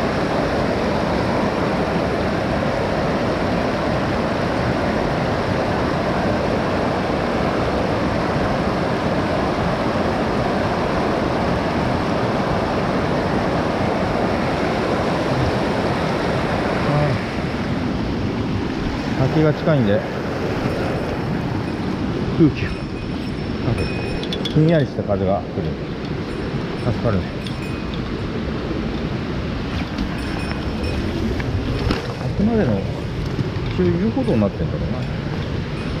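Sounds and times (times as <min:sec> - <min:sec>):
stream water rushing: 0:00.0 - 0:36.0
waterfall: 0:00.0 - 0:36.0.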